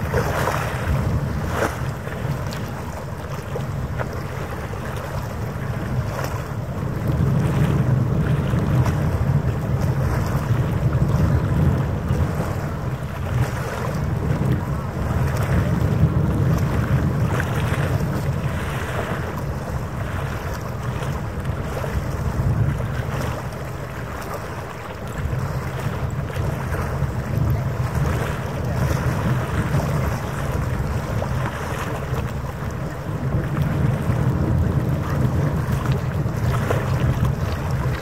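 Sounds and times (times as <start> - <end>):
choppy water washing: 0.0 - 38.0
wind buffeting microphone: 0.0 - 38.0.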